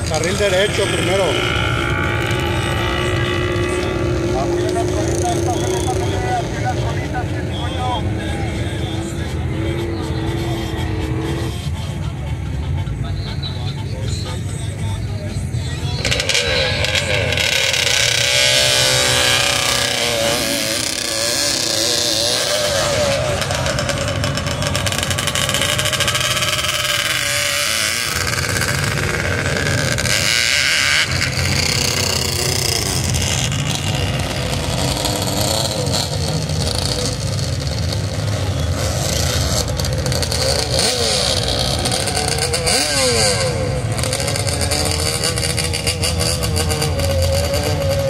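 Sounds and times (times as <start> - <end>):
engines revving: 0.0 - 48.0
rush of tire noise: 0.0 - 48.0.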